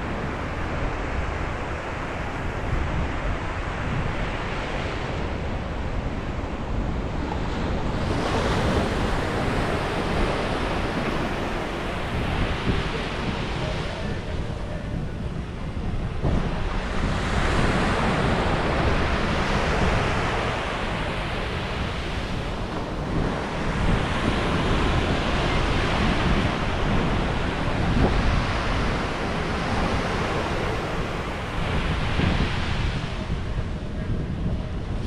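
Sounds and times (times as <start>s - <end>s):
sea waves washing onto shore: 0.0s - 35.0s
wind rumbling on microphone: 0.0s - 35.0s.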